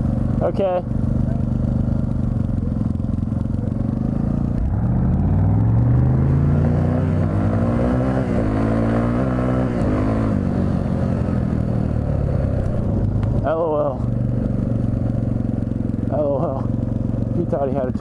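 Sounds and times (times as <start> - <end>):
dirt bike engine revving: 1.4 - 18.0.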